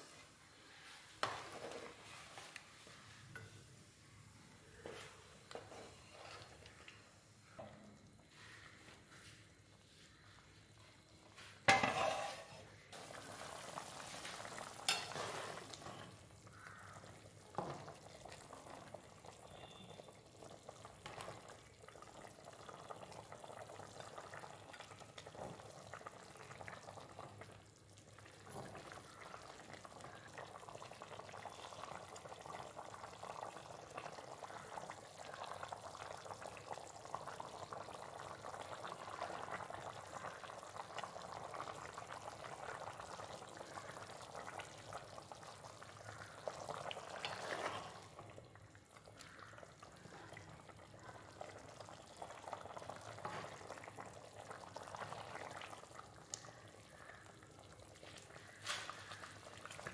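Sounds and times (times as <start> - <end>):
curry bubbling at a simmer: 0.4 - 59.9.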